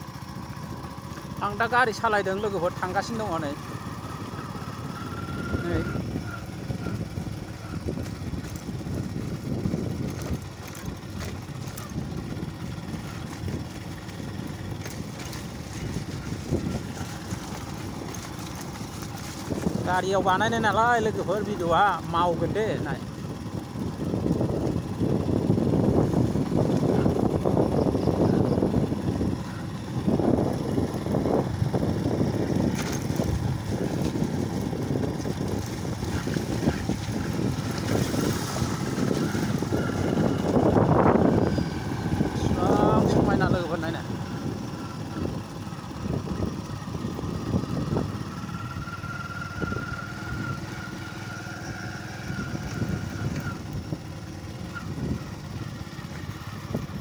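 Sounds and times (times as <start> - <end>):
vehicle engine rumbling: 0.0 - 57.0
wind rushing over microphone: 2.8 - 20.8, 21.8 - 57.0.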